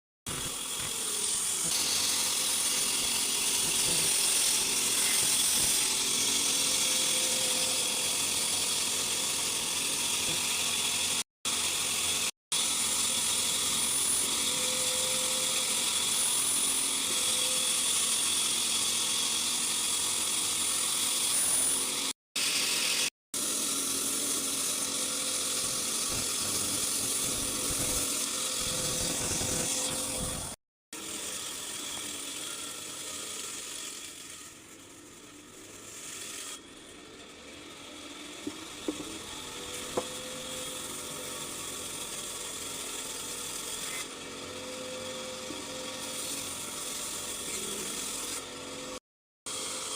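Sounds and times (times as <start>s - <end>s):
wood saw machine whining: 0.3s - 49.9s.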